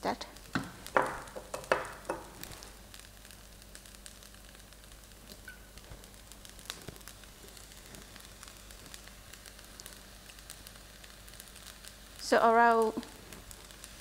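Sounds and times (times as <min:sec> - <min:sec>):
rice sizzling in a pan: 0:00.0 - 0:14.0.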